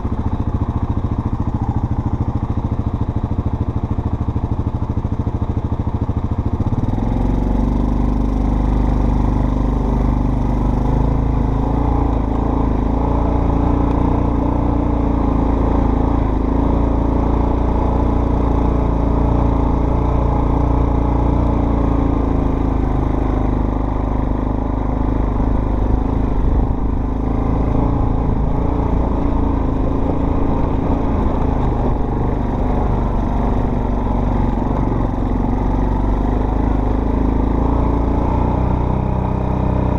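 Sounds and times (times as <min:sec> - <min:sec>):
off-road vehicle engine rumbling: 0:00.0 - 0:39.9.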